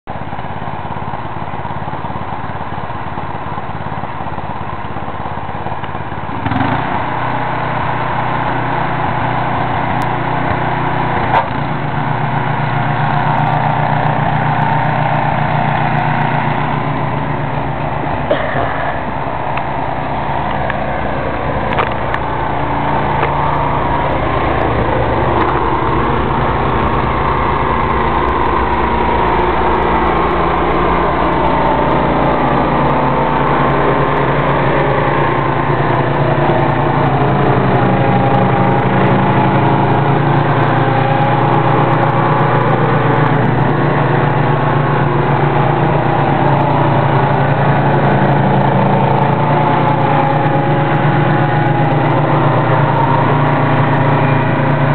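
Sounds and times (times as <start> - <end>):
snow thrower engine running: 0.0 - 54.9.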